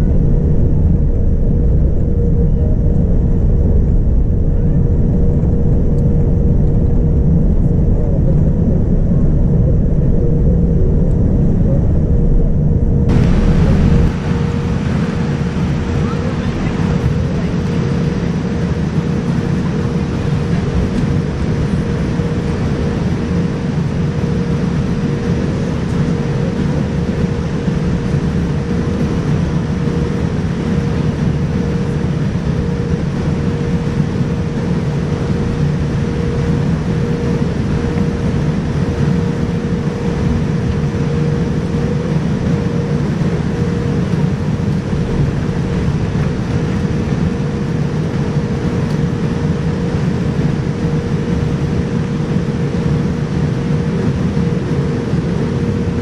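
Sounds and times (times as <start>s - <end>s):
aircraft cabin engine and airflow rush: 0.0s - 56.0s
faint constant hum: 0.0s - 56.0s.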